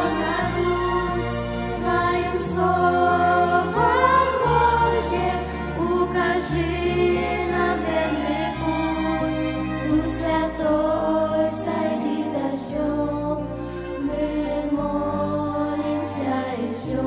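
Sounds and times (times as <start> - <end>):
girls singing into microphones: 0.0 - 17.0.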